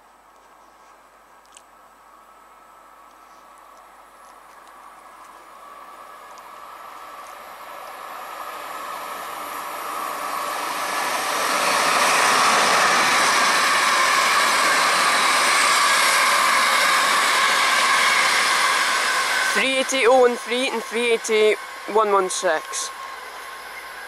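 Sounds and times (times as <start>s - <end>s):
electric train running past: 3.8s - 24.0s.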